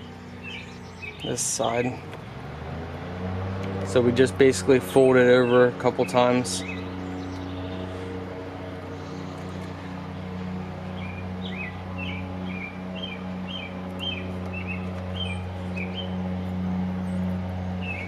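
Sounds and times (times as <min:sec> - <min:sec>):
songbird chirping: 0:00.0 - 0:04.4, 0:05.0 - 0:18.0
steady low hum: 0:00.0 - 0:18.0.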